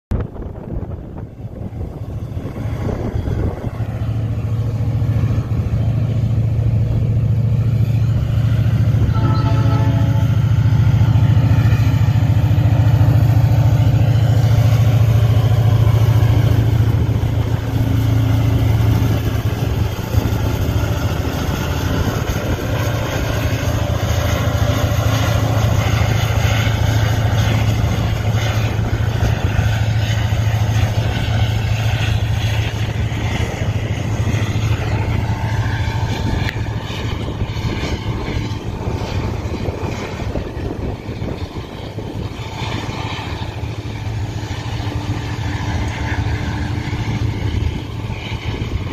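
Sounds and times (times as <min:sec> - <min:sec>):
diesel locomotive engine drone: 0:00.1 - 0:48.9.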